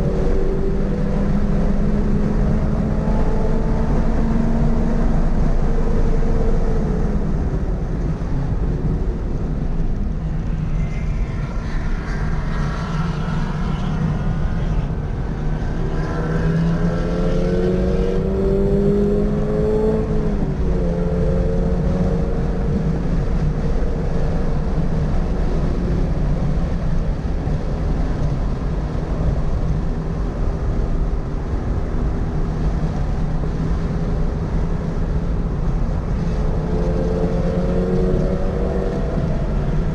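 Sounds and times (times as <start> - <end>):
car engine running hard: 0.0 - 39.9
road and wind noise: 0.0 - 39.9.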